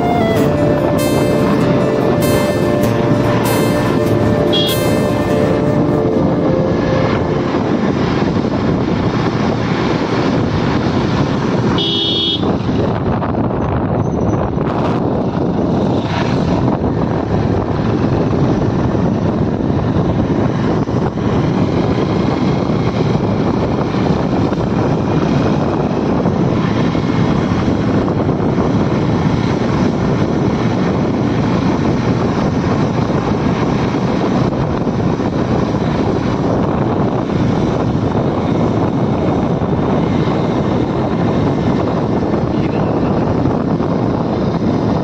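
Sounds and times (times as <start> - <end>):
vehicle engine drone: 0.0 - 45.0
wind rush: 0.0 - 45.0.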